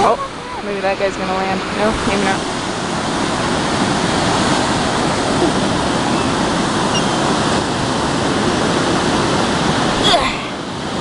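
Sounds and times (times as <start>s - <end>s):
ocean surf washing on beach: 0.0s - 11.0s.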